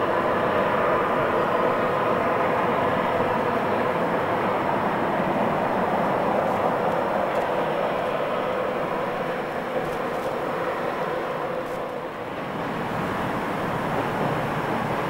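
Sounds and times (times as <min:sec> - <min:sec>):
train wheels rumbling on bridge: 0:00.0 - 0:15.0.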